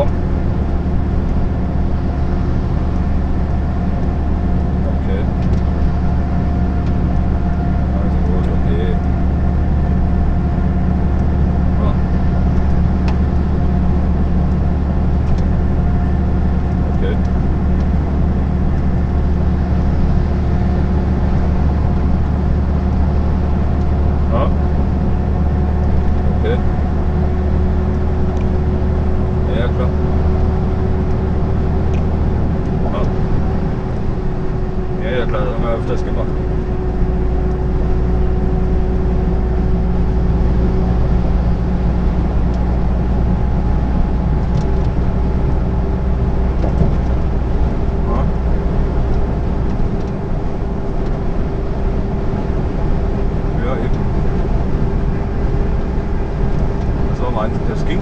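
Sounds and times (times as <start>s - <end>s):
road and wind noise: 0.0s - 58.0s
truck engine drone: 0.0s - 58.0s.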